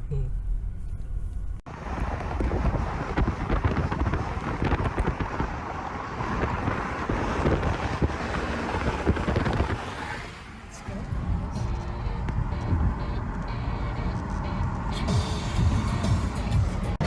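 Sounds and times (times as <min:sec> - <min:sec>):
wind buffeting microphone: 0:01.0 - 0:14.9.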